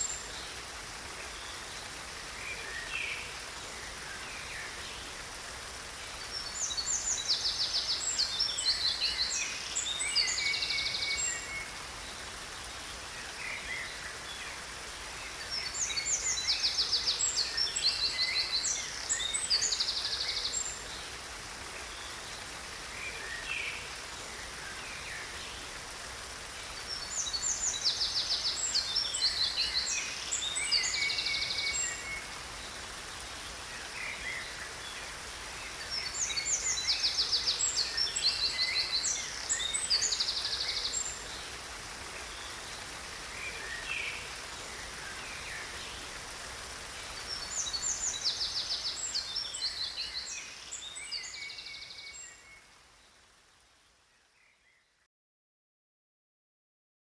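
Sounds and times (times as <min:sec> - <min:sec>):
falling water rushing: 0:00.0 - 0:54.1.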